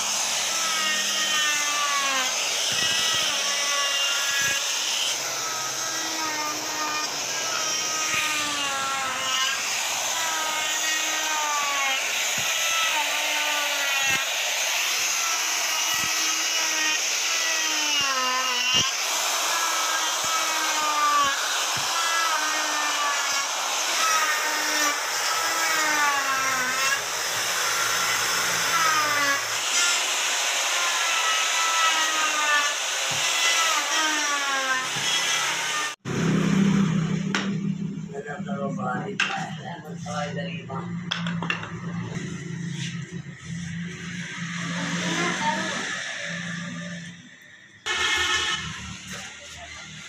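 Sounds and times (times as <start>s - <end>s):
electric router whining: 0.0s - 37.5s, 41.1s - 50.0s.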